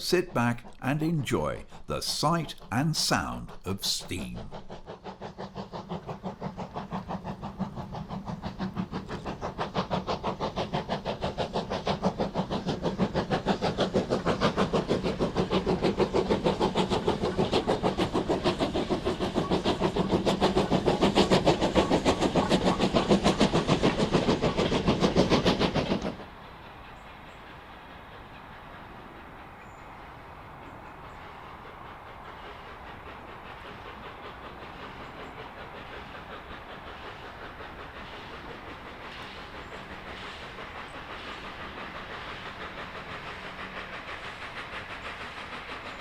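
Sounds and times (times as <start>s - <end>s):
steam locomotive chuffing: 0.0s - 46.0s.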